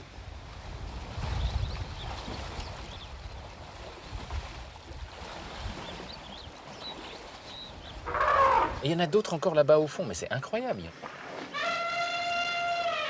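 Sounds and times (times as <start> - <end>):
water sloshing and splashing: 0.4 - 9.6, 10.4 - 13.0.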